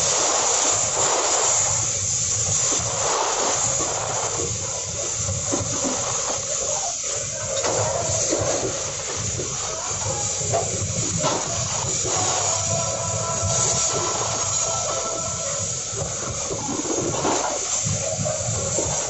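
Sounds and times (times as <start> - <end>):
steel wheels rushing on rails: 0.0 - 19.0.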